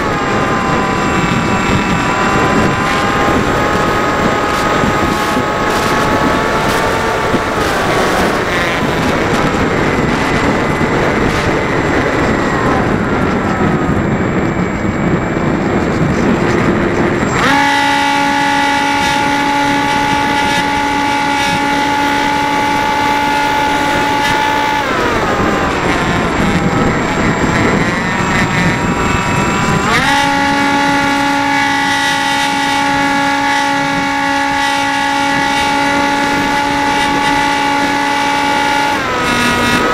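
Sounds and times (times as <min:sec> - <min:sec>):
electric motor and propeller whining: 0:00.0 - 0:39.9
wind buffeting microphone: 0:00.0 - 0:39.9.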